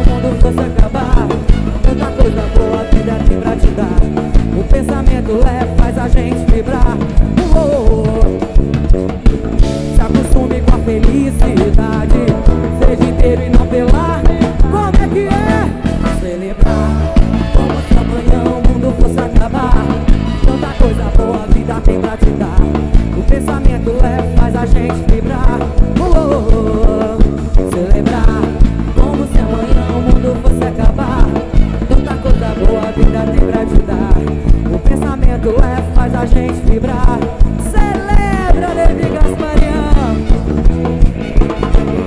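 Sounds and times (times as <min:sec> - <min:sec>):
drum kit fast beat: 0:00.0 - 0:42.0
live band playing upbeat music: 0:00.0 - 0:42.0.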